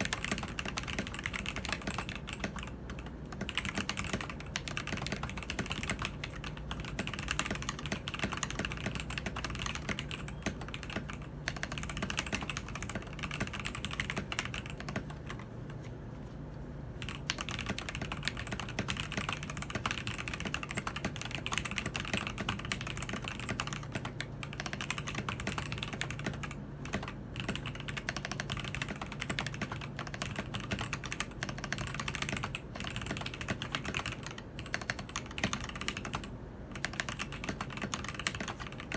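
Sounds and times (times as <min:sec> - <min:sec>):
mechanical keyboard typing: 0:00.0 - 0:15.8, 0:17.0 - 0:38.9.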